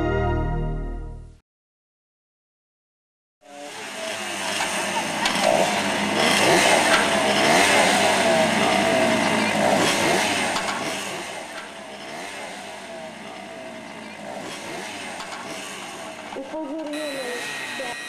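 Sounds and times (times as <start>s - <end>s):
two-stroke engines revving: 3.4s - 18.0s.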